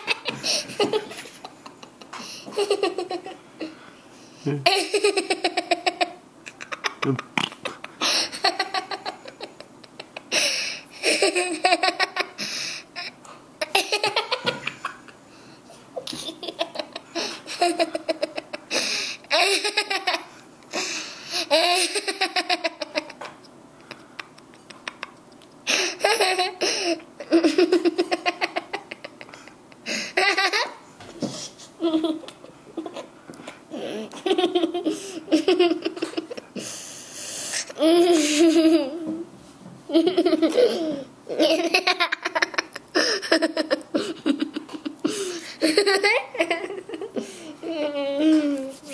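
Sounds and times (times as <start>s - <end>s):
girl laughing: 0.0s - 3.8s, 4.6s - 12.4s, 13.0s - 15.2s, 16.0s - 20.3s, 21.4s - 30.8s, 31.8s - 33.1s, 33.7s - 36.6s, 37.8s - 39.2s, 39.9s - 48.7s.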